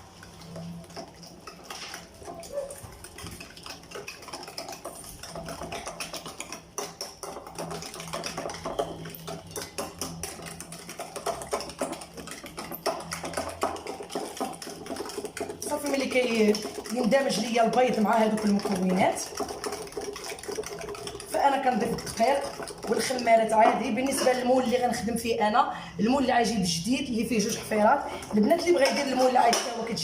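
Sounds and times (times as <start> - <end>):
utensil clinking against bowl: 0.2 - 25.1, 27.2 - 30.0.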